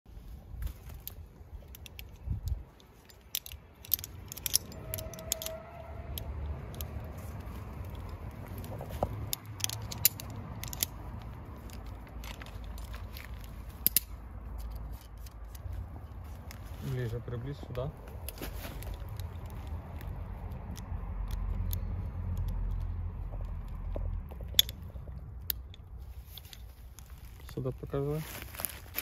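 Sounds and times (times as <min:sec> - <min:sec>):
rope and glove handling: 0:00.1 - 0:29.0
metal carabiners clicking: 0:00.6 - 0:29.0.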